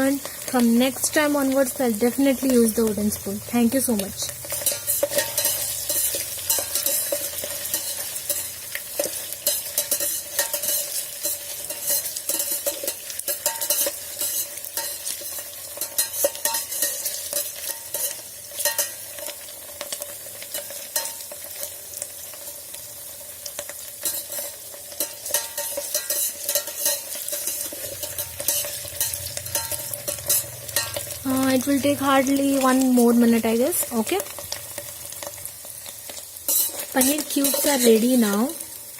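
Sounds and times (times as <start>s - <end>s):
cheese sizzling in hot oil: 0.0s - 38.9s
metal spoon scraping a pan: 0.0s - 38.9s.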